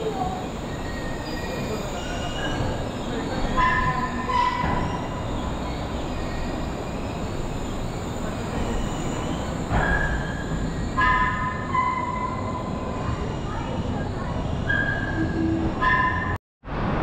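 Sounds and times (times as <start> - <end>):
high-pitched wheel squeals: 0.0 - 16.4
steel wheels rumbling on rail: 0.0 - 17.0.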